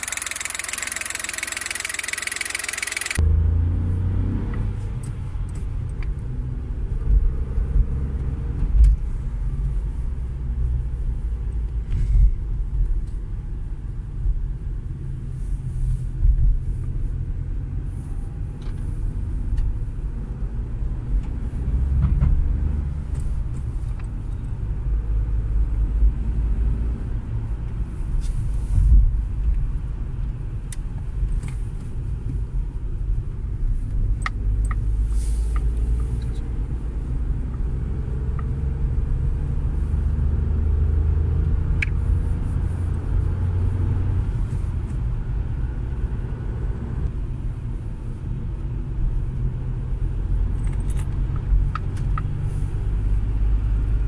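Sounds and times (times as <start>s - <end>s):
car cabin road rumble: 3.1s - 54.0s.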